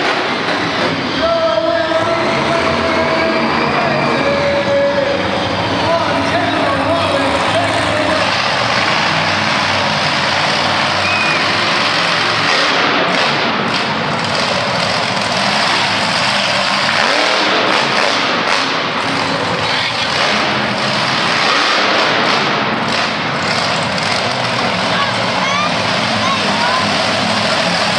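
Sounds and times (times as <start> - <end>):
monster truck engine running: 0.0 - 27.9.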